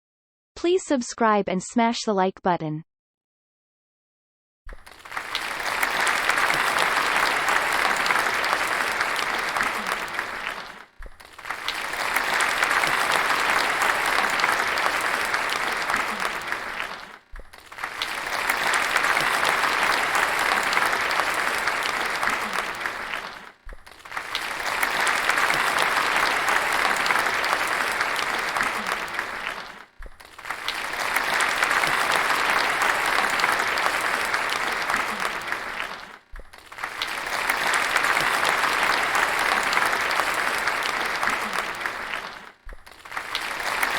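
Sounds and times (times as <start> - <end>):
audience applause: 4.8 - 43.9.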